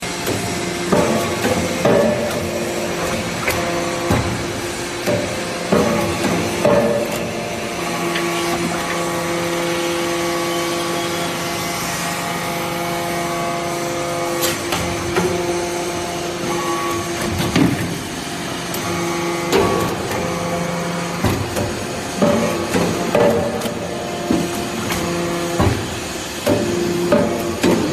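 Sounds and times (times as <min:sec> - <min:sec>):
hydraulic pump hum: 0:00.0 - 0:27.9.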